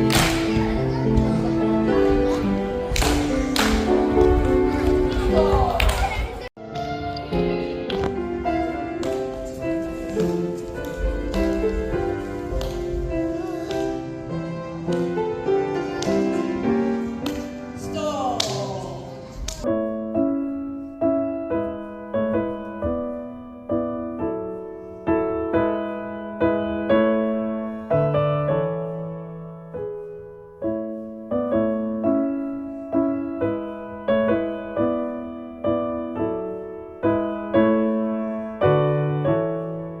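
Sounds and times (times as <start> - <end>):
gentle piano melody: 0.0 - 40.0.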